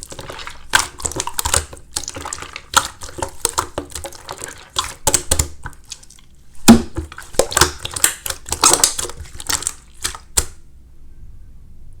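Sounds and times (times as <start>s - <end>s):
slime squished by hand: 0.0s - 10.6s.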